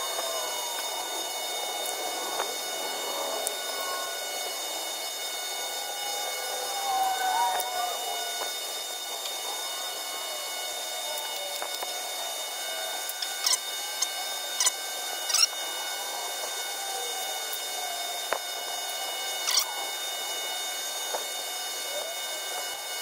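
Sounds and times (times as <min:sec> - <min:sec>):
torch hiss with high whine: 0:00.0 - 0:23.0.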